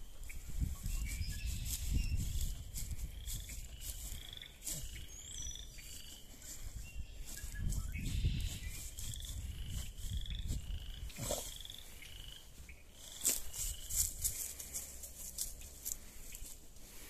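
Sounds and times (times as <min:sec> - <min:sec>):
dry leaves crackling: 0:00.0 - 0:10.9, 0:11.6 - 0:17.0.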